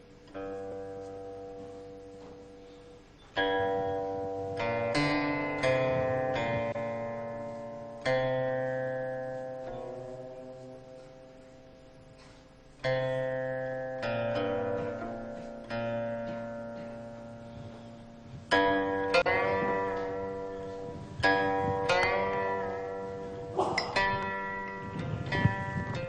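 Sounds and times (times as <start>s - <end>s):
slow plucked string music: 0.0s - 26.0s.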